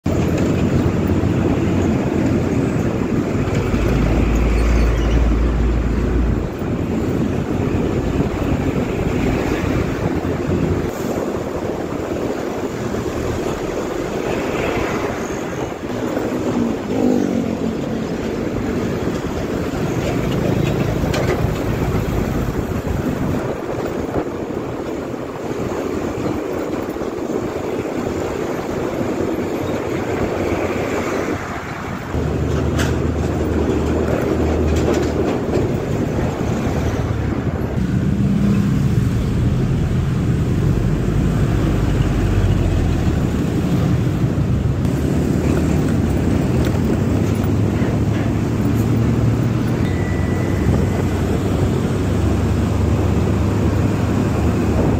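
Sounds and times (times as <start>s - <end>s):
heavy low truck rumble: 0.0s - 54.9s
motorcycle engine and tyre rumble: 0.0s - 54.9s
wind rush: 0.0s - 54.9s.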